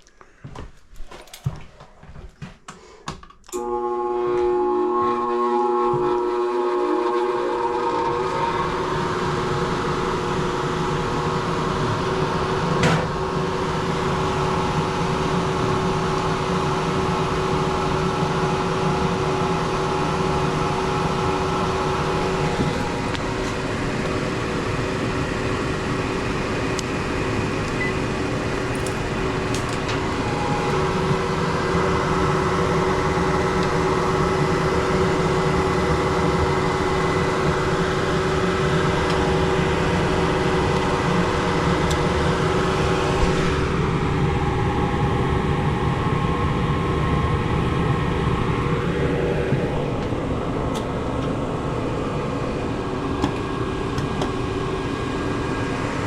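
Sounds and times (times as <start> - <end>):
air conditioning hum: 7.1 - 56.0.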